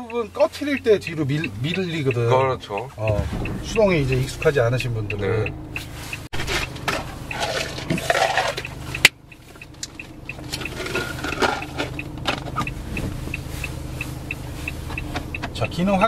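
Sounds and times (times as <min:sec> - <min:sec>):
light ticking: 0:00.0 - 0:06.3, 0:08.6 - 0:16.0
diesel engine idling: 0:00.0 - 0:16.0.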